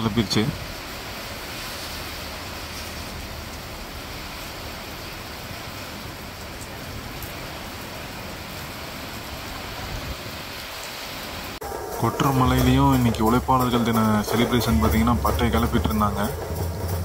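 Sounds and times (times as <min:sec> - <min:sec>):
heavy rain pouring on a street: 0:00.0 - 0:17.0.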